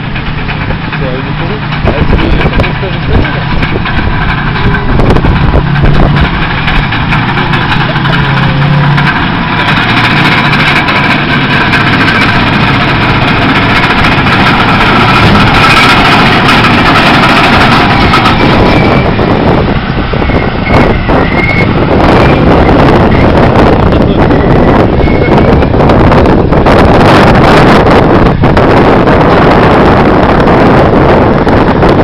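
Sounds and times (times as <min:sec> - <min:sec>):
diesel engine running loudly: 0:00.0 - 0:32.0.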